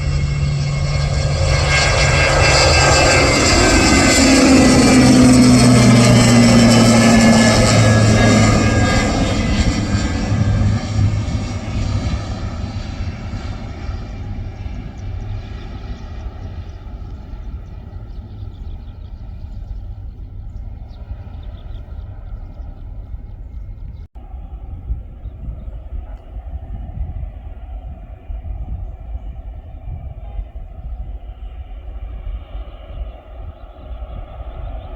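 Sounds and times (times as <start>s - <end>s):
airplane engines passing: 0.0s - 34.9s.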